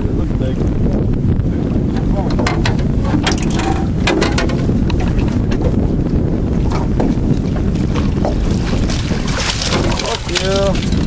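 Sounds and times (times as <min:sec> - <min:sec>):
boat noise: 0:00.0 - 0:11.0
water: 0:00.0 - 0:11.0
wind rumble on microphone: 0:00.0 - 0:11.0.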